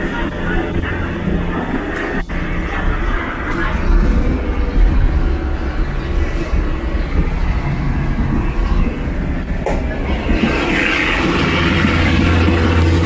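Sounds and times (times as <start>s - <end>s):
rushing noise: 0.0s - 13.0s
train carriage rumble and rattle: 0.0s - 13.0s.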